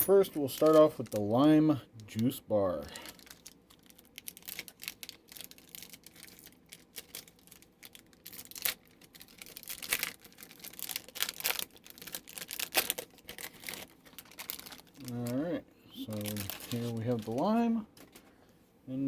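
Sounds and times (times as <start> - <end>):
plastic wrapper crinkling and tearing: 0.0 - 18.3.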